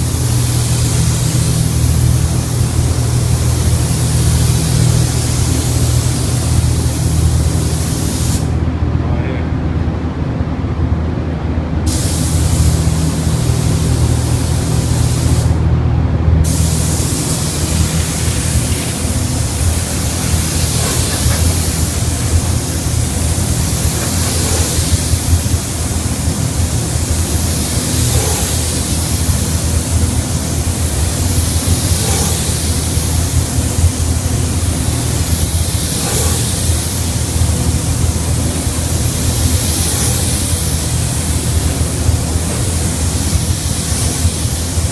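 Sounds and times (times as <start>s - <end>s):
spray gun hissing: 0.0s - 8.6s, 11.9s - 15.6s, 16.4s - 44.9s
steady low hum: 0.0s - 44.9s.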